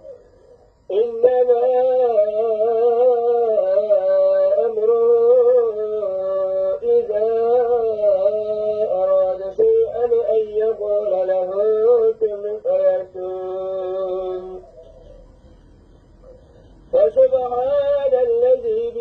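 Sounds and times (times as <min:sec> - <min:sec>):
man chanting melody: 0:00.9 - 0:14.9, 0:16.8 - 0:19.0.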